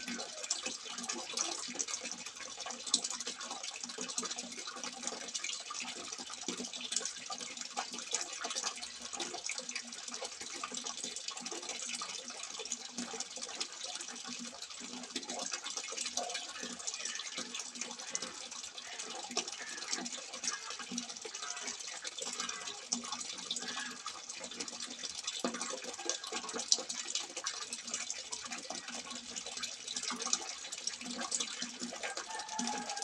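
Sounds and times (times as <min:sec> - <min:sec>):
water splashing from spout: 0:00.0 - 0:33.0.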